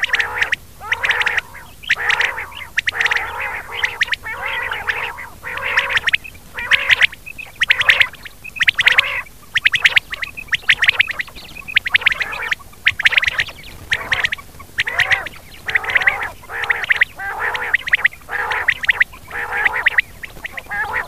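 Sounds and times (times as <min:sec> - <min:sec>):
faint steady hum: 0:00.0 - 0:21.0
quail calling: 0:00.0 - 0:21.0.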